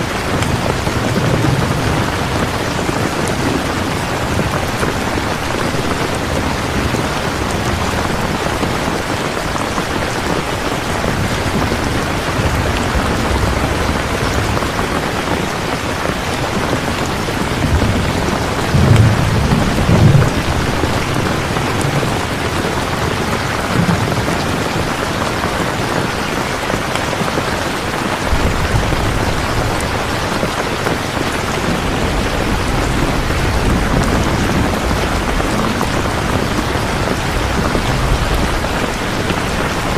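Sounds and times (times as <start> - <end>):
thunder rolling: 0.0 - 26.7, 28.1 - 39.9
heavy rain falling: 0.0 - 39.9.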